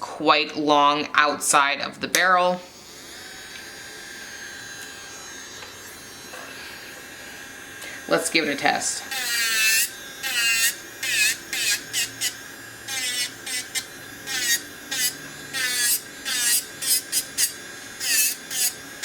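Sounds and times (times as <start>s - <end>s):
electric nail drill grinding: 2.4s - 19.0s.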